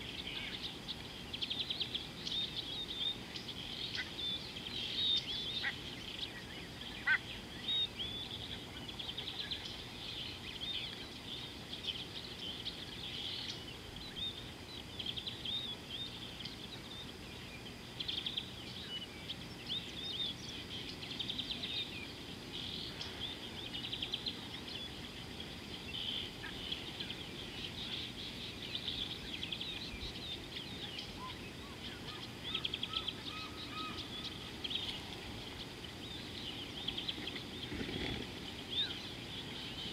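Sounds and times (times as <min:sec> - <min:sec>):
low background hiss: 0:00.0 - 0:39.9
small birds chirping: 0:00.0 - 0:39.9.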